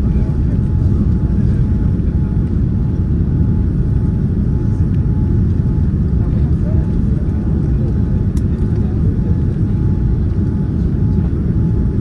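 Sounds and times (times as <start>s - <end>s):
aircraft engine and airflow rumble: 0.0s - 12.0s.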